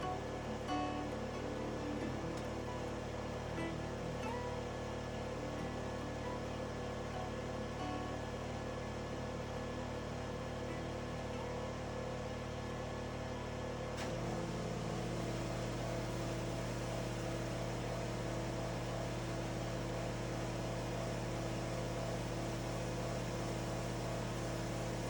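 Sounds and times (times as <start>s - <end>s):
pressure washer engine running: 0.0s - 25.0s.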